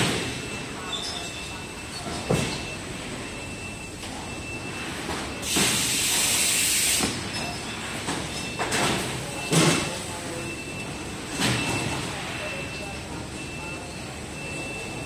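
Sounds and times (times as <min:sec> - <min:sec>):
conveyor machinery humming: 0:00.0 - 0:15.0.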